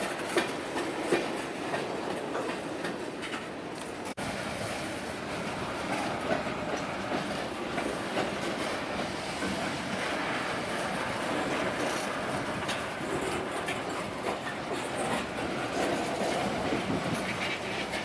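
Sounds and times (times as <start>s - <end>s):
wheels clicking over rail joints: 0.0s - 4.2s, 5.4s - 18.0s
train wheels rumbling on rail: 0.0s - 18.0s.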